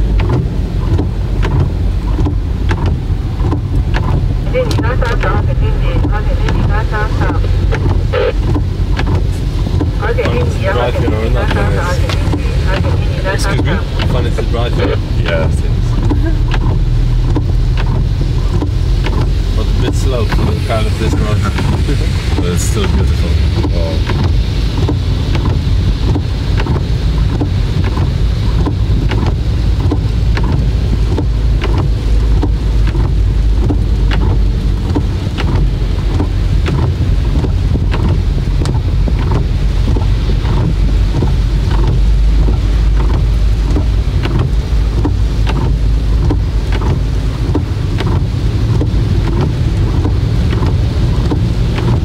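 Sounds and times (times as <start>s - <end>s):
car road and engine rumble: 0.0s - 52.0s
raindrops ticking on windscreen: 0.0s - 52.0s.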